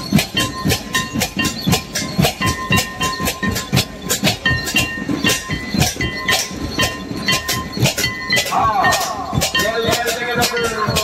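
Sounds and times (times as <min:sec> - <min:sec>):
barrel drums beaten fast: 0:00.0 - 0:11.0
steady high tone: 0:00.0 - 0:11.0.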